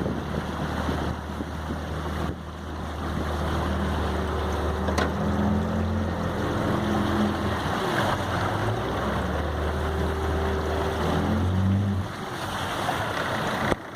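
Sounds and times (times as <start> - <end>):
boat motor running: 0.0 - 13.9
water noise: 0.0 - 13.9
wind: 0.0 - 13.9.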